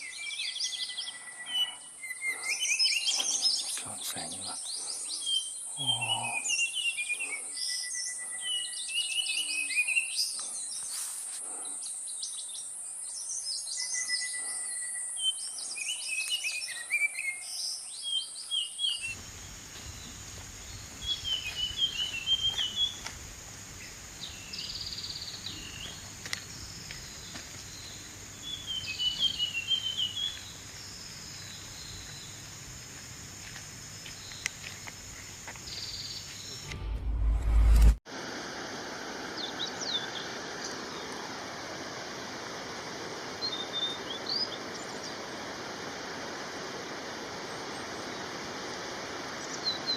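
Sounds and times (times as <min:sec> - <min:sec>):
songbird chirping song: 0:00.0 - 0:36.9, 0:39.3 - 0:49.9.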